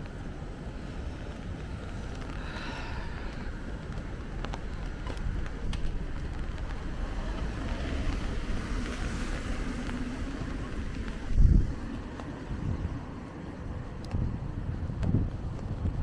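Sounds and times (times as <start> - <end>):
traffic on wet roads: 0.0 - 16.0.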